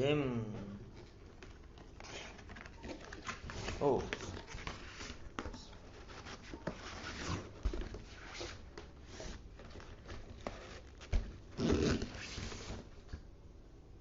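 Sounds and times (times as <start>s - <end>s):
cardboard scraping and rustling: 1.0s - 13.0s.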